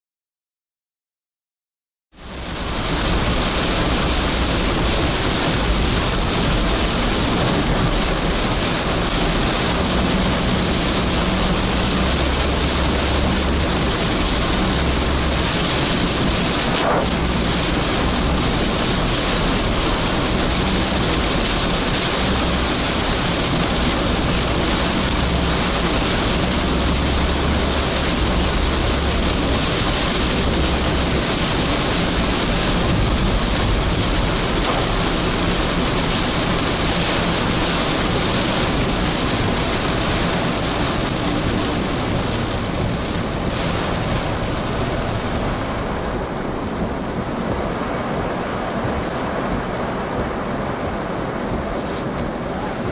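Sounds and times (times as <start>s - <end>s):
heavy rain on a car: 2.1s - 52.9s
low road rumble: 2.1s - 52.9s
tyres hissing on wet road: 2.2s - 52.9s.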